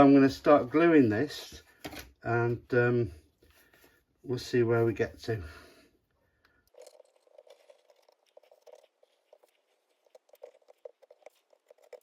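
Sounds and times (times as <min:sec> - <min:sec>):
faint handling sounds: 0:00.2 - 0:12.0.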